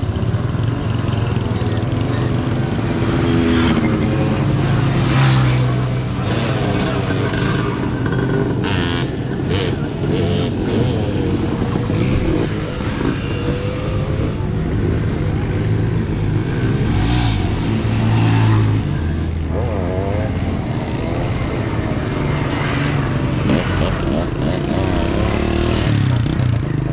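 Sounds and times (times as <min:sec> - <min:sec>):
motorcycle engines revving: 0:00.0 - 0:26.9.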